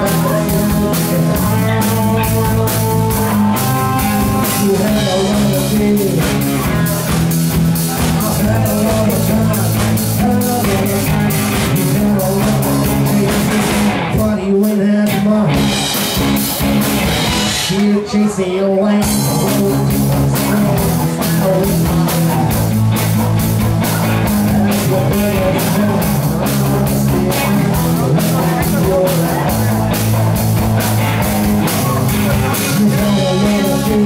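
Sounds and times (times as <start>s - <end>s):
drum kit: 0.0s - 18.2s, 18.9s - 34.0s
bass guitar: 0.0s - 34.0s
electric guitars: 0.0s - 34.0s.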